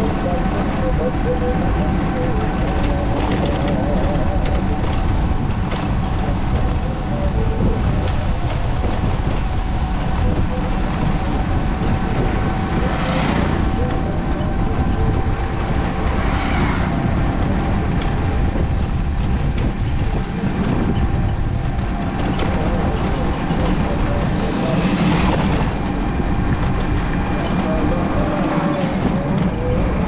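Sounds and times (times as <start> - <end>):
vehicle road noise rumble: 0.0 - 30.0
wind noise: 0.0 - 30.0.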